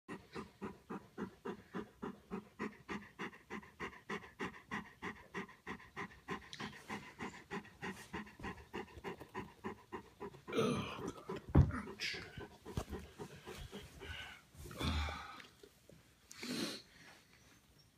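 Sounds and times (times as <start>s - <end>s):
dog panting: 0.1s - 14.5s.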